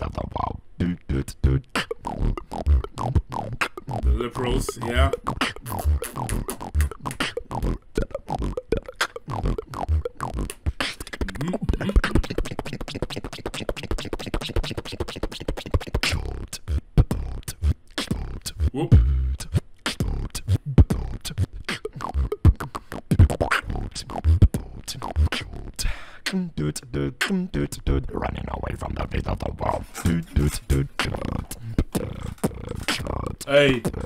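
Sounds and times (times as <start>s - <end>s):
beatboxing into a microphone: 0.0s - 34.0s.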